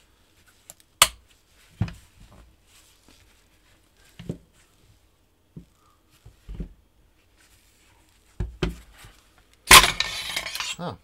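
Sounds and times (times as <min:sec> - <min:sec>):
gloved hands handling rifle parts: 0:00.2 - 0:10.8.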